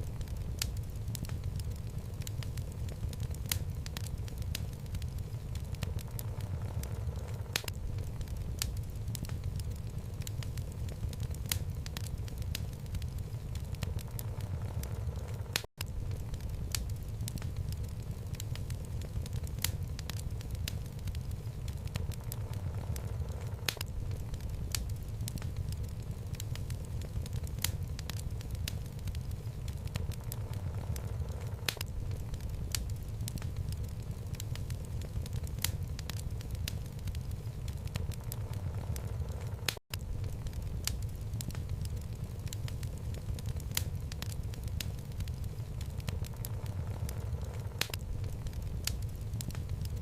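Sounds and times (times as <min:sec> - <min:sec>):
fireplace flames: 0:00.0 - 0:50.0
wood crackling and popping: 0:00.0 - 0:50.0.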